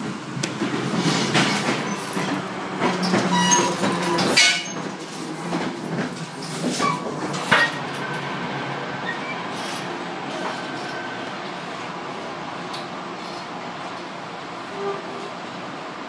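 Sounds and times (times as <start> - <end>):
train rumble with wheel clatter: 0.0 - 16.0.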